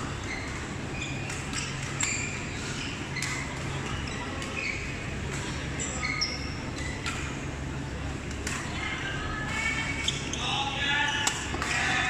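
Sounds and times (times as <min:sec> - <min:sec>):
court shoes squeaking: 0:00.0 - 0:07.7, 0:09.6 - 0:12.0.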